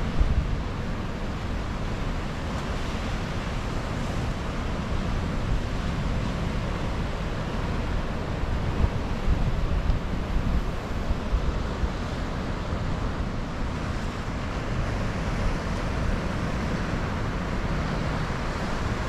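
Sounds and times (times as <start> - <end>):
ocean surf rushing: 0.0 - 19.0.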